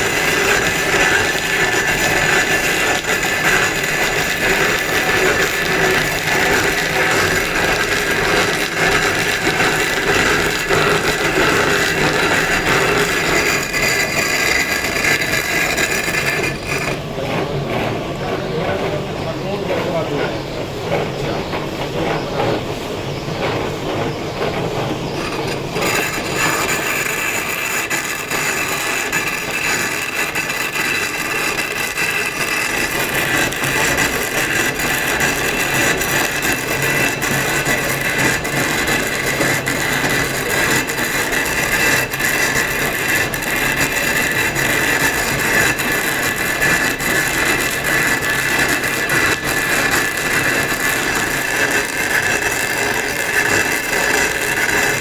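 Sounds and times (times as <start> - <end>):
power tool grinding stone: 0.0 - 55.0
rough rubbing: 0.0 - 55.0.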